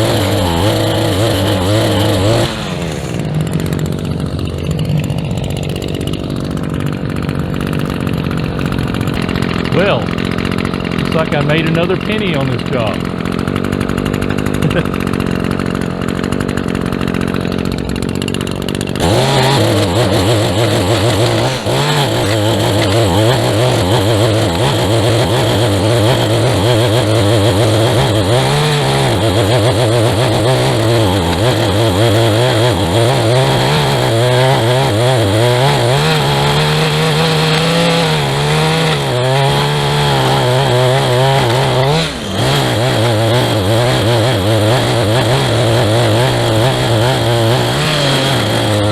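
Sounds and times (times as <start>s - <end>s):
small two-stroke engine revving: 0.0s - 48.9s.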